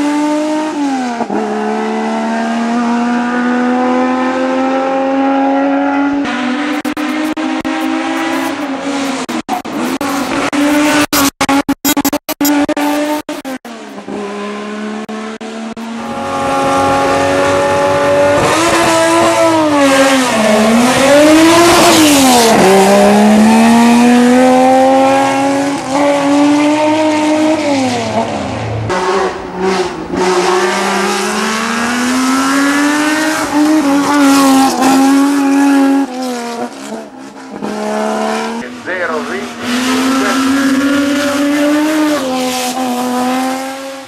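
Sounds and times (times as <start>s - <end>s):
racing car engine revving: 0.0s - 44.0s.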